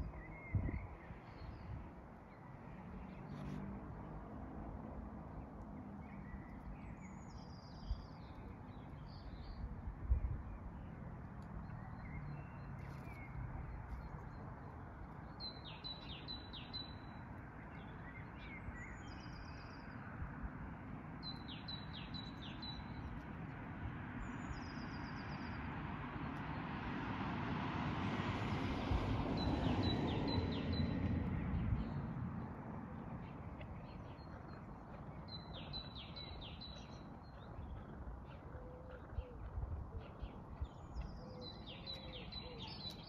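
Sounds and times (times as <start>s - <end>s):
small birds singing: 5.3s - 20.1s, 21.1s - 26.7s, 28.5s - 43.0s.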